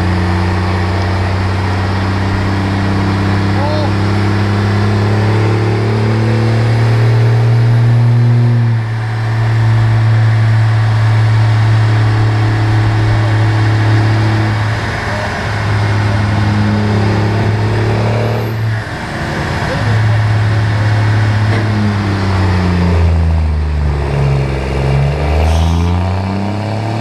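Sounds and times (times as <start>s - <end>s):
pickup diesel engine under load: 0.0s - 27.0s.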